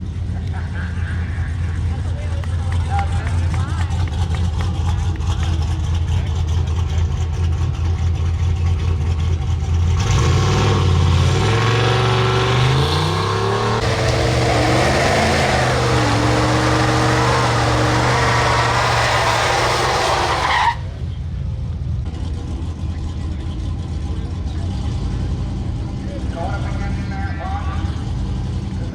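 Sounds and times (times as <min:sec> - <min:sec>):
truck engine revving: 0:00.0 - 0:28.9.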